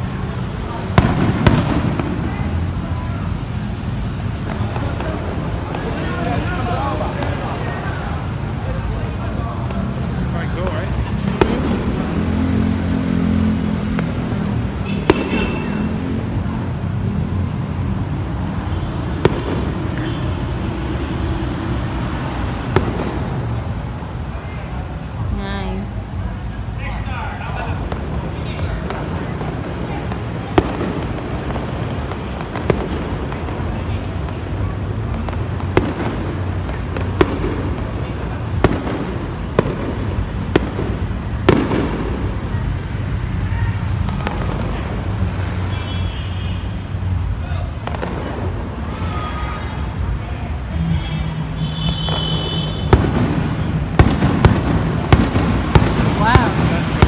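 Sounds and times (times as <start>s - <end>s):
firework crack: 0.0s - 57.0s
low city rumble: 0.0s - 57.0s.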